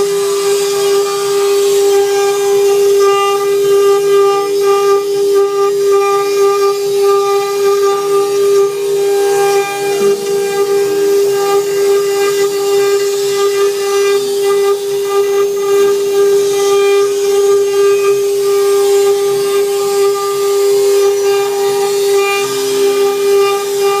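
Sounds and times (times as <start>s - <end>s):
router spindle whining: 0.0s - 24.0s.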